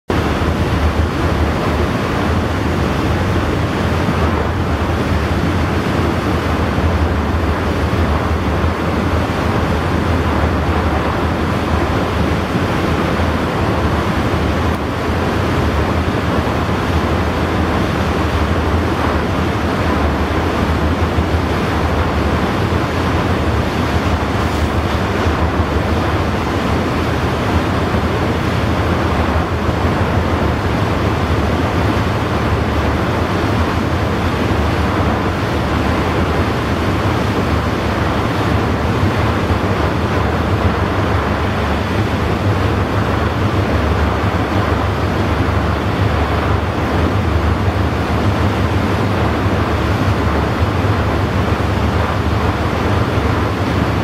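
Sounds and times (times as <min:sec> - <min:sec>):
constant low rumble: 0:00.1 - 0:54.0
sea wash: 0:00.1 - 0:54.0
wind buffeting microphone: 0:00.1 - 0:54.0.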